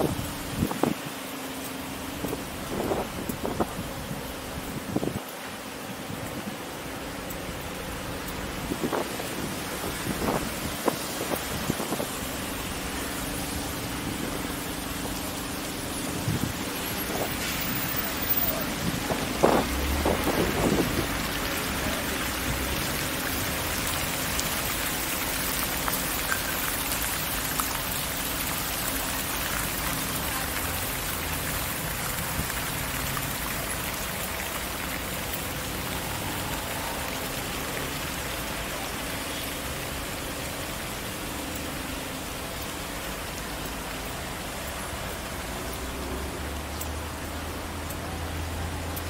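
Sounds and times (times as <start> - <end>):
outdoor hiss: 0.0 - 49.0.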